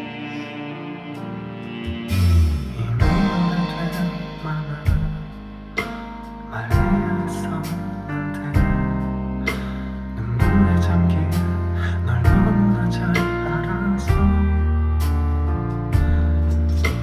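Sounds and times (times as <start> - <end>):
band playing a ballad: 0.0 - 17.0.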